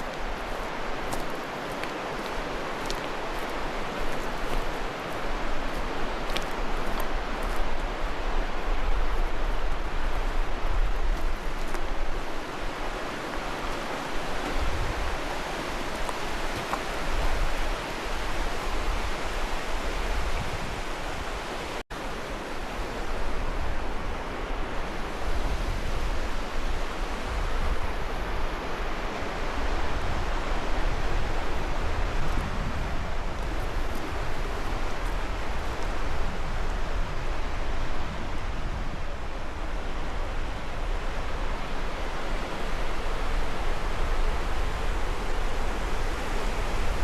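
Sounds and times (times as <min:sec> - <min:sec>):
rushing river roar: 0:00.0 - 0:47.0.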